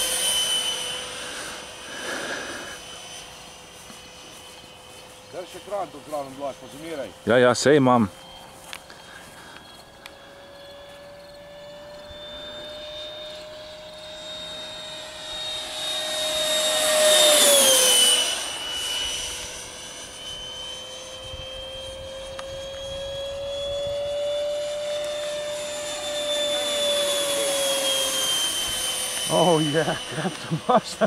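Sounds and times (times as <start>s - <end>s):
model jet fan whine passing: 0.0s - 31.0s.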